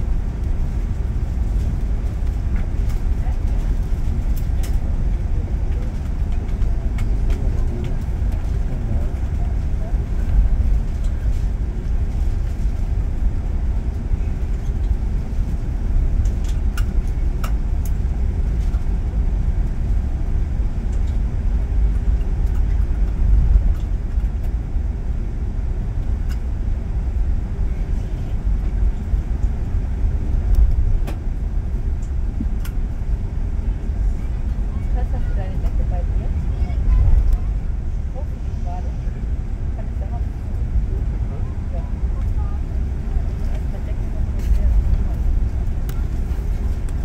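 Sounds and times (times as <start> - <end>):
aircraft cabin low rumble: 0.0 - 47.0.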